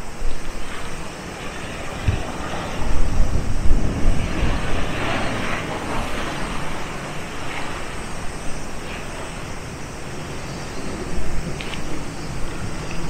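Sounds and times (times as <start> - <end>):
waves washing ashore: 0.0 - 13.0
wind buffeting microphone: 0.0 - 13.0.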